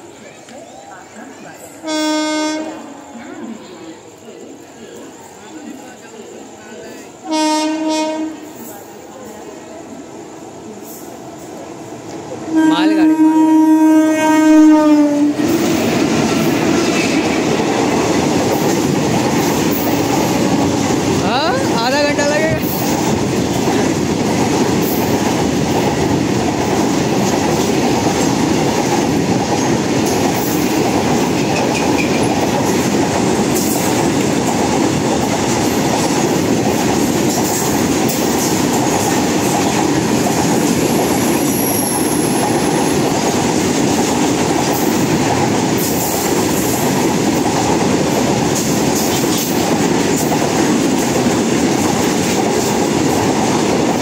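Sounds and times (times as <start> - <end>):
steel train wheels rolling on rails: 0.0 - 54.0.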